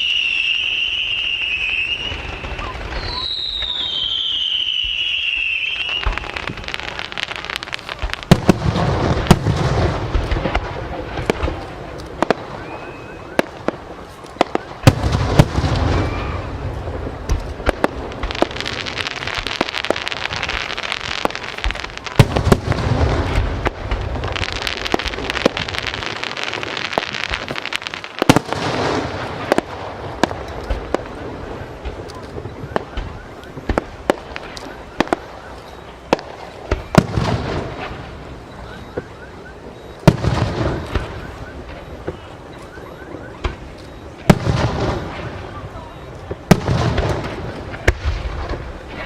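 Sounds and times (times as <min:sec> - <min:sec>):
falling firework whistle: 0:00.0 - 0:10.6, 0:11.2 - 0:49.0
firework crackling: 0:00.0 - 0:49.0.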